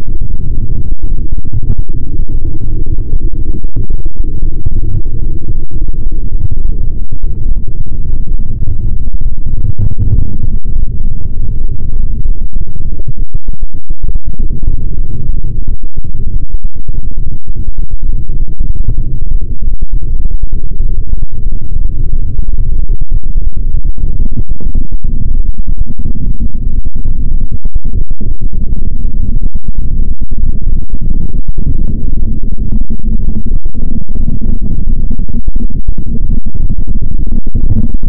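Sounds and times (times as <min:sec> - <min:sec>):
distorted electronic rumbling: 0:00.0 - 0:38.0.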